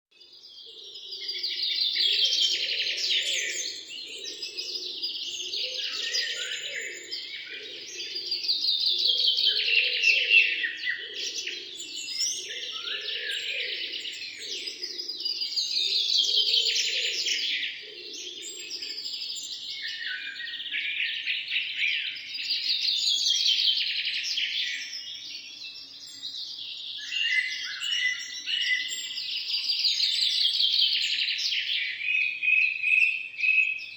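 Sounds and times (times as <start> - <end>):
birds chirping in chorus: 0.1 - 33.9.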